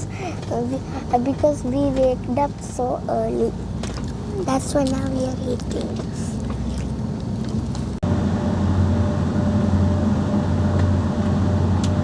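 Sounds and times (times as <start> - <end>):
engine drone with low hum: 0.0 - 12.0
vehicle engine rumble: 0.0 - 12.0.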